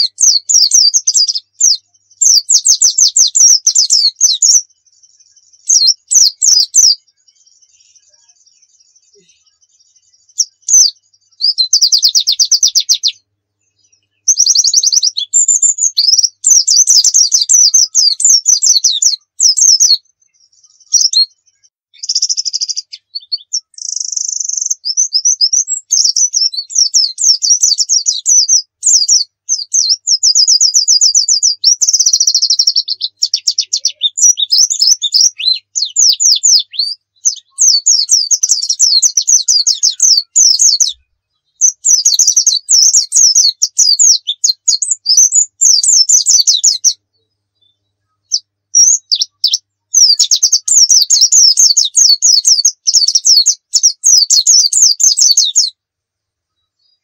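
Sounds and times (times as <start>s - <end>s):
bird trilling and chattering: 0.0s - 13.2s, 14.2s - 20.1s, 20.7s - 41.0s, 41.6s - 47.0s, 48.2s - 55.7s.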